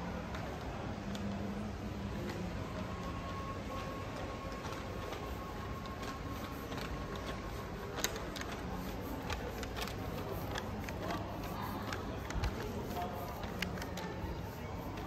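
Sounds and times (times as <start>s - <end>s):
shopping mall hubbub: 0.0s - 15.0s.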